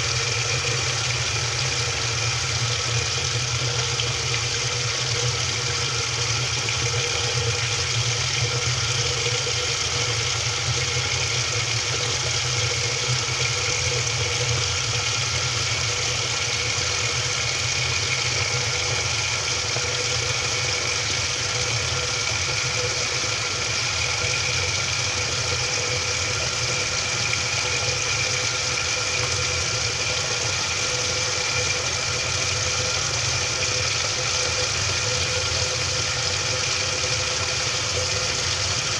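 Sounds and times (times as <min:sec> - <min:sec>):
washing machine hum: 0:00.0 - 0:38.9.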